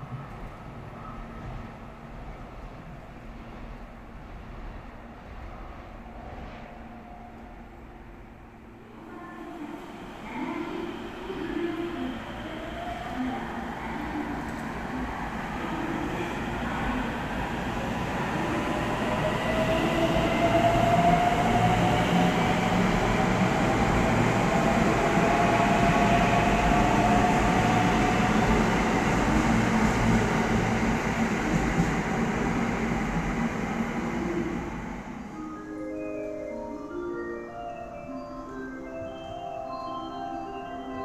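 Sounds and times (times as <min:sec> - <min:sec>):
electric train rumble: 0:00.0 - 0:35.5.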